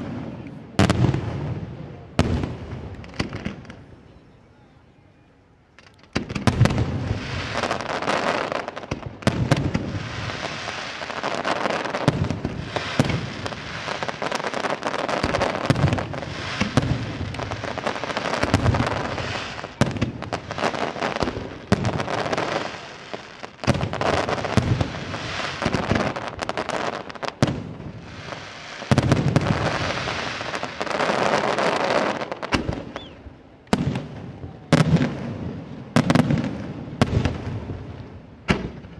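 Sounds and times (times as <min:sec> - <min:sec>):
fireworks bursts and bangs: 0:00.0 - 0:04.0, 0:05.8 - 0:38.9
fireworks crackle: 0:02.2 - 0:04.1, 0:05.7 - 0:38.9.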